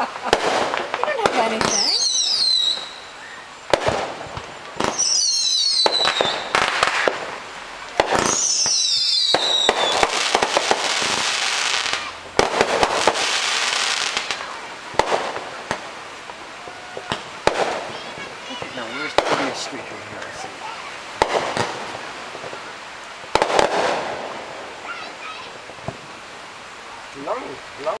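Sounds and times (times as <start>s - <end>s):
falling firework whistles: 0.0s - 26.2s
fireworks bangs: 0.0s - 28.0s
crackling of bursting shells: 0.1s - 3.1s, 3.7s - 20.4s, 21.2s - 24.8s.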